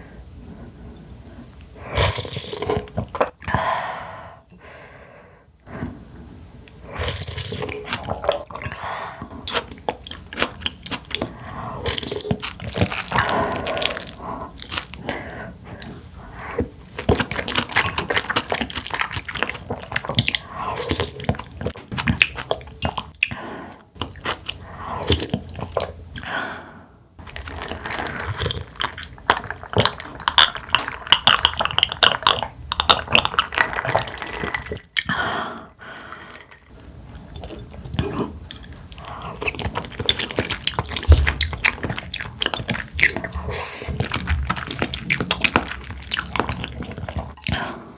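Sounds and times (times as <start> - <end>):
person chewing food: 1.2 - 3.6, 6.7 - 26.3, 27.2 - 47.9.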